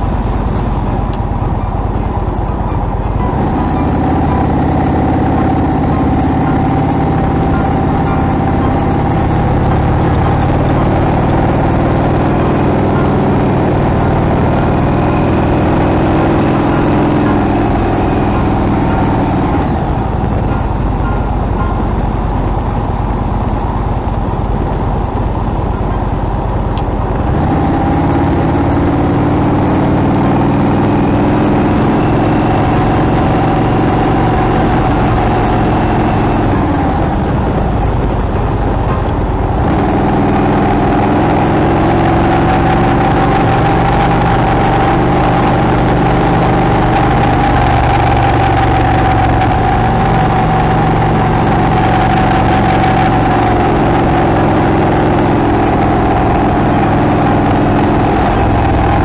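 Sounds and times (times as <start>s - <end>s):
motorcycle engine: 0.0s - 59.0s
wind rush: 0.0s - 59.0s.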